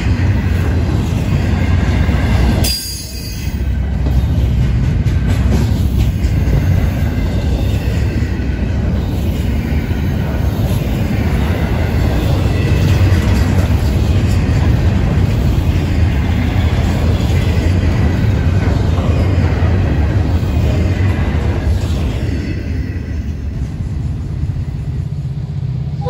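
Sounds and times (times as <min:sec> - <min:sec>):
steel wheels rumbling on rails: 0:00.0 - 0:26.0.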